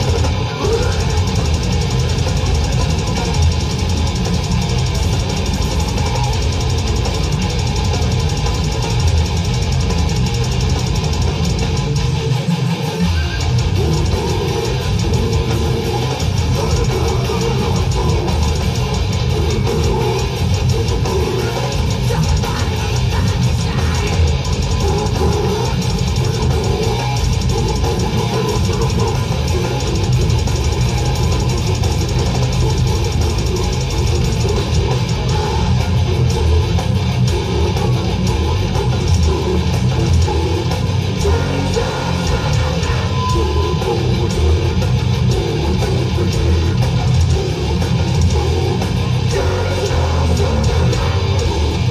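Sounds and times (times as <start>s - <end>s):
death metal band playing live: 0.0s - 51.9s.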